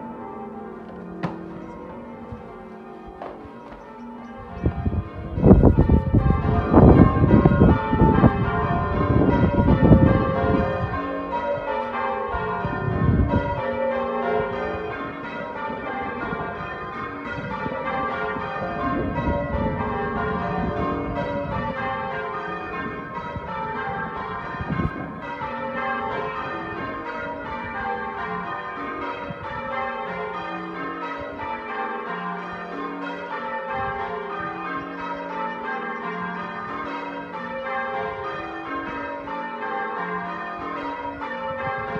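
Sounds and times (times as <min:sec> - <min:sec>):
church bells ringing: 0:00.0 - 0:41.9.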